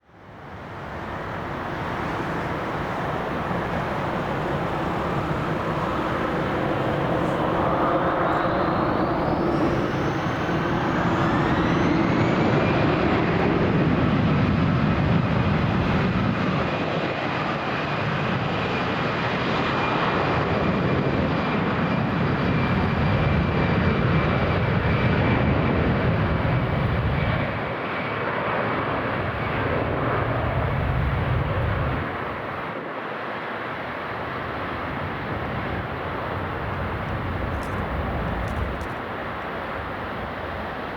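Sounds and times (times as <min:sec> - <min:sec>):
jet engine whine: 0:00.0 - 0:40.9
jet engines roaring: 0:00.0 - 0:40.9.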